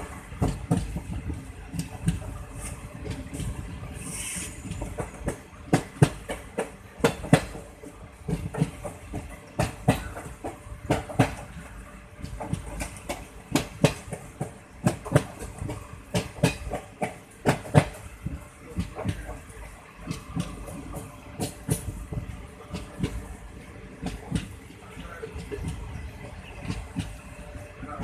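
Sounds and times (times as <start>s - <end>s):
train wheels clacking: 0.0s - 23.4s, 24.0s - 27.3s
low train rumble: 0.0s - 28.0s.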